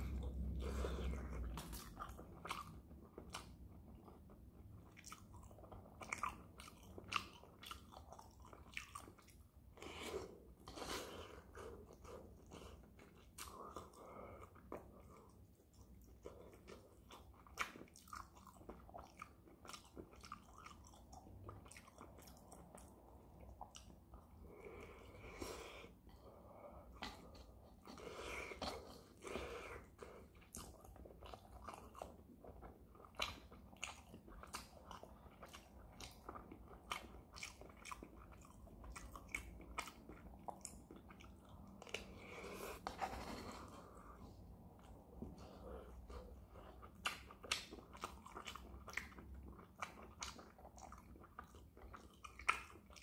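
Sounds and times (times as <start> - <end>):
chewing and crunching: 0.0 - 53.0.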